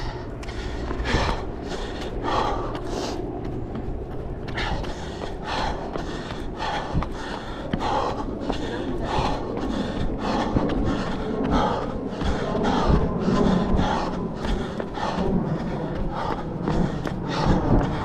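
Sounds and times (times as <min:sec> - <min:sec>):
heavy breathing: 0:00.0 - 0:18.0.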